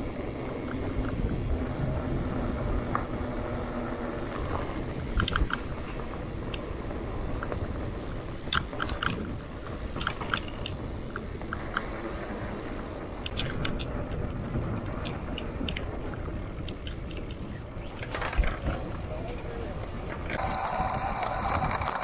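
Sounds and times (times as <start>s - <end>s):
bike clicks and rattles: 0.0s - 22.0s
bike tyres rumbling on ground: 0.0s - 22.0s.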